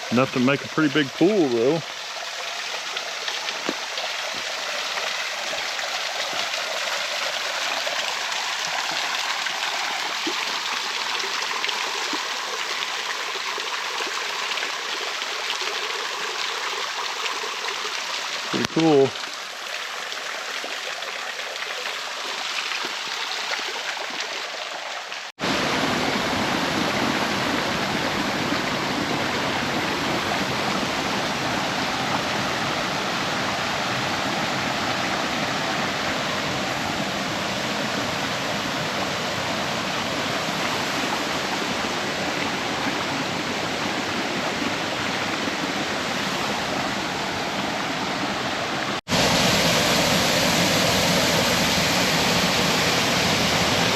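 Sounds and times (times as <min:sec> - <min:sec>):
creek and waterfall rushing: 0:00.0 - 0:53.9.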